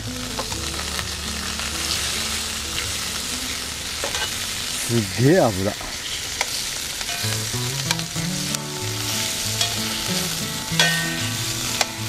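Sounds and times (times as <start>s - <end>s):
bacon sizzling in fat: 0.0s - 12.0s.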